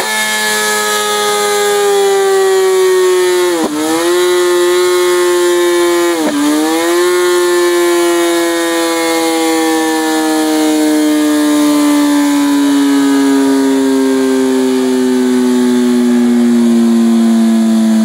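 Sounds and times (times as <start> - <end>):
motorcycle engine winding down: 0.0 - 18.0.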